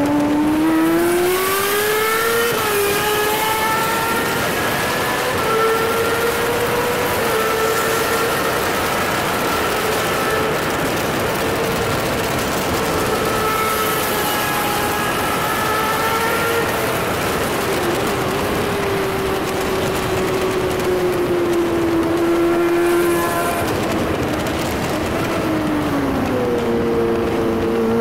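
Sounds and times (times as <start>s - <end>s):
motorcycle engine at speed: 0.0s - 28.0s
wind noise: 0.0s - 28.0s.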